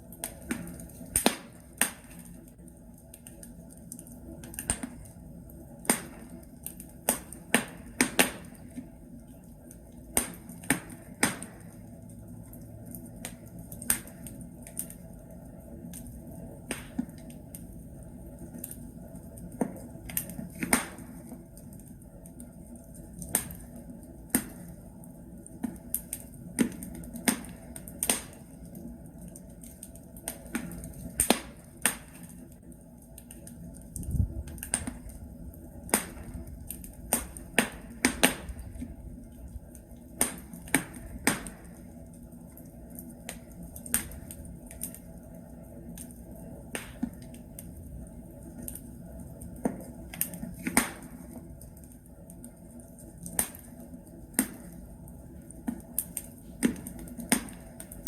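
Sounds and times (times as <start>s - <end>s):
logs crackling in a fireplace: 0.0s - 58.0s.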